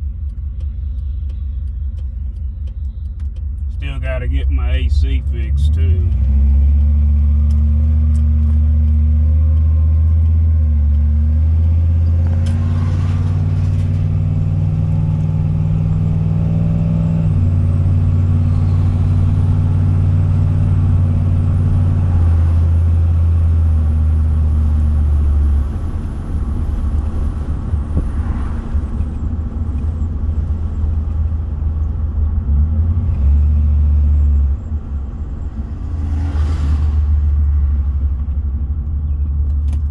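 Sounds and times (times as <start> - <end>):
truck engine and drivetrain drone: 0.0 - 39.9.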